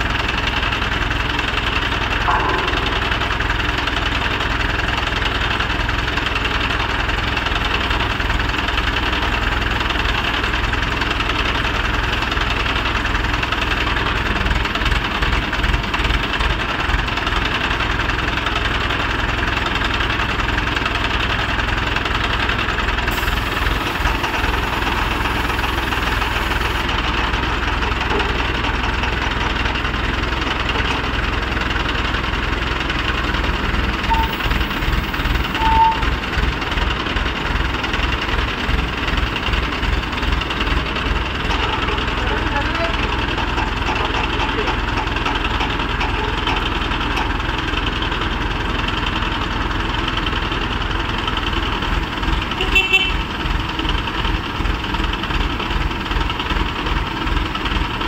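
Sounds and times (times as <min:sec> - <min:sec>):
crane diesel engines running: 0:00.0 - 0:58.0.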